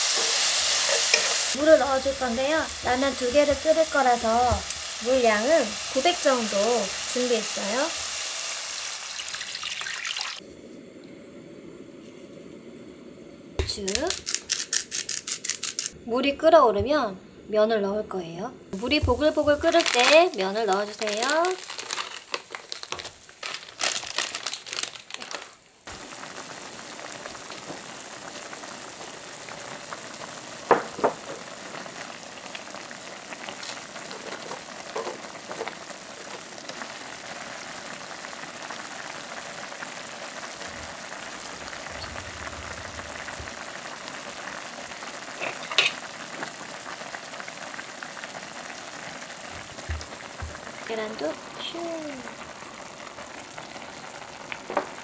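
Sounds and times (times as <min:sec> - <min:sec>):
broth boiling and bubbling: 0:00.0 - 0:14.1, 0:18.7 - 0:55.0.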